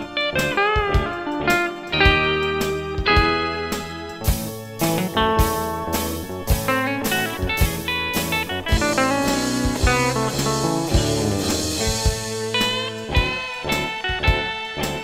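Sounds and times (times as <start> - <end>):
steady drum beat: 0.0 - 1.4, 2.0 - 14.6
bass guitar: 0.0 - 15.0
electric guitar blues melody: 0.0 - 15.0.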